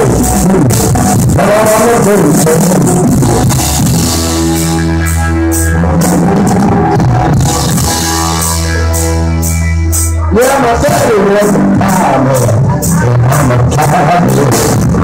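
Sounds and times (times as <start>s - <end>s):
electric bass: 0.0s - 15.0s
person singing: 0.0s - 15.0s.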